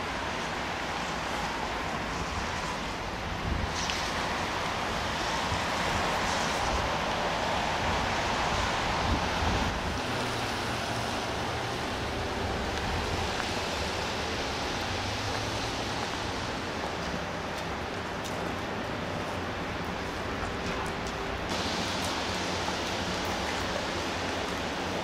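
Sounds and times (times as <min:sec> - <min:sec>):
city traffic going by: 0:00.0 - 0:25.0.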